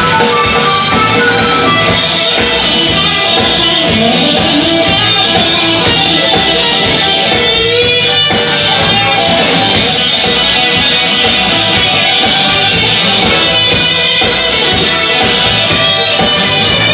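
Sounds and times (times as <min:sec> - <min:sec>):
instrumental rock music: 0:00.0 - 0:16.9
strummed guitar: 0:00.0 - 0:16.9.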